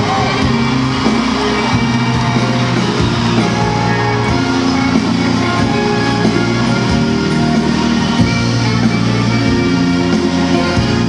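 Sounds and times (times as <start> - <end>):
live band playing pop music: 0.0 - 11.0.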